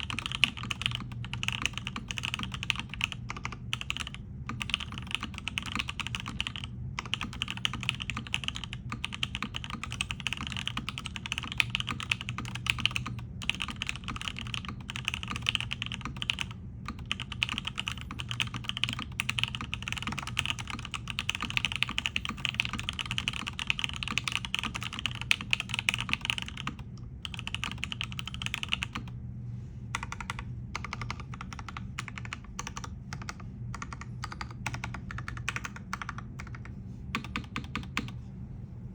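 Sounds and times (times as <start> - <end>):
mechanical keyboard typing: 0.0 - 29.2, 29.9 - 38.2.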